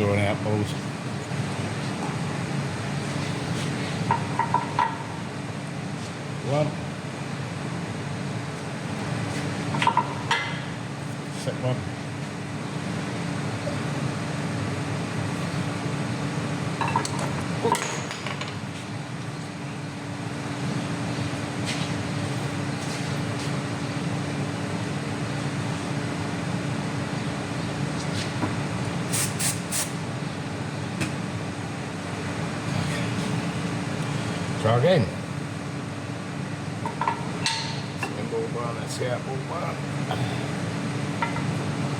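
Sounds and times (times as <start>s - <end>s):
steady machine hum: 0.0s - 29.1s, 29.9s - 41.9s.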